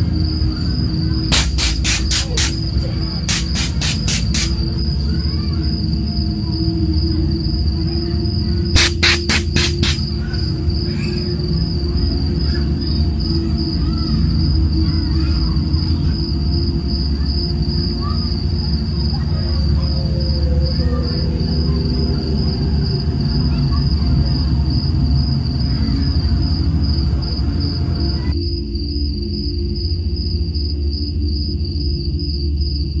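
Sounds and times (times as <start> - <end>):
crickets chirping: 0.0 - 33.0
low steady drone: 0.0 - 33.0.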